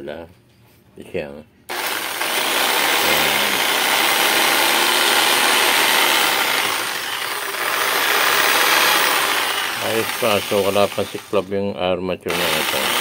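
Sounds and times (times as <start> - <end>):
jigsaw motor running: 1.7 - 11.5, 12.3 - 13.0.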